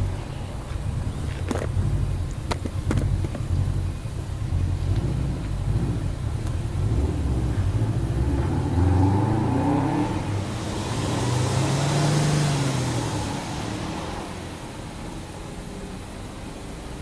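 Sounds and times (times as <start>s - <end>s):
car engine revving: 0.8s - 17.0s.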